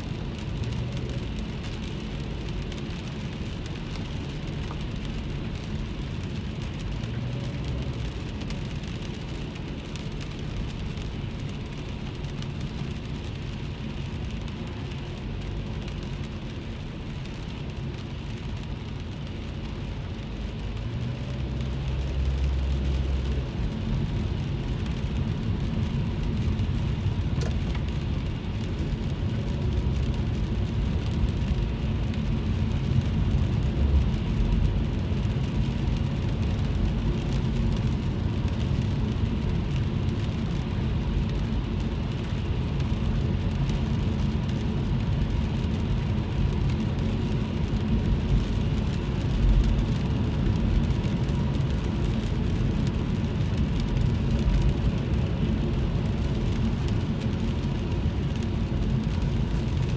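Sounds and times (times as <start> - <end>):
rain on car body: 0.0 - 59.9
road and engine noise in car: 0.0 - 59.9.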